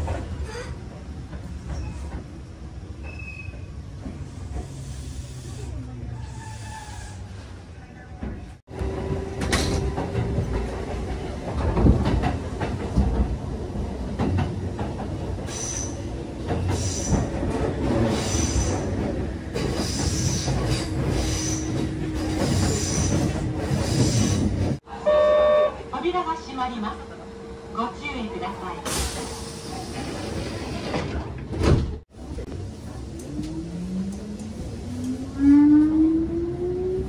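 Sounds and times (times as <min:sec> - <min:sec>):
train wheels rumbling on rail: 0:00.0 - 0:24.9, 0:25.8 - 0:37.0.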